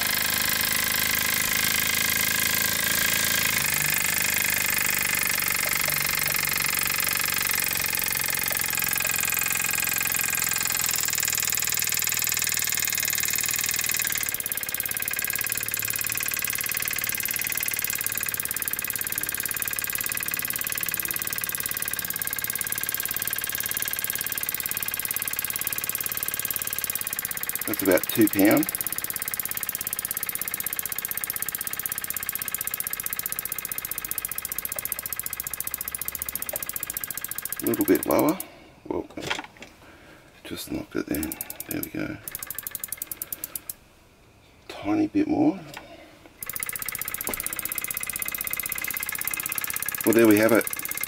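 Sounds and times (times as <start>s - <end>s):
model steam engine chattering: 0.1s - 38.4s, 41.1s - 43.8s, 46.4s - 51.0s.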